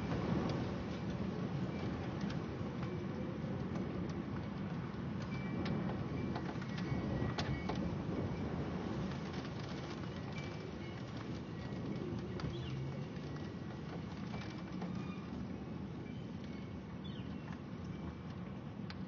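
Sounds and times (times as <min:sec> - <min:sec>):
wind and rain rushing: 0:00.0 - 0:19.0.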